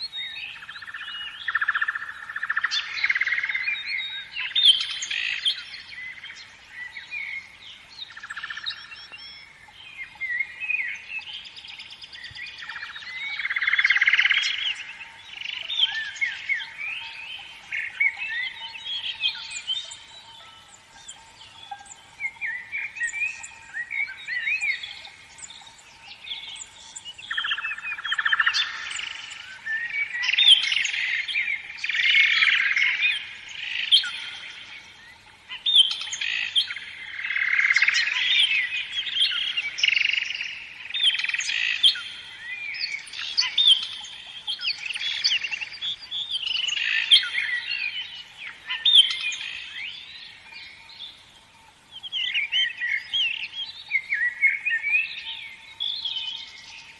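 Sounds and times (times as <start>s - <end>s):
faint steady tone: 0.0s - 56.9s
songbirds chirping and singing: 0.0s - 56.9s.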